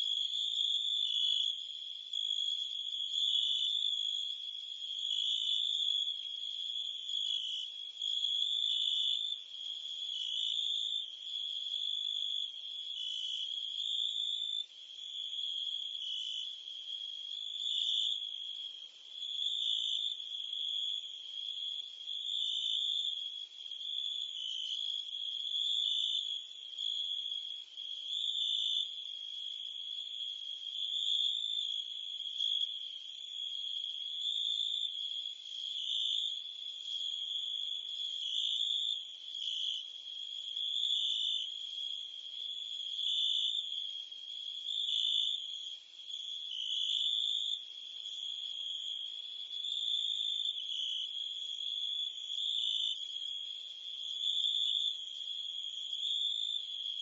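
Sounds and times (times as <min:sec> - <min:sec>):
crickets and cicadas chirping: 0:00.0 - 0:57.0.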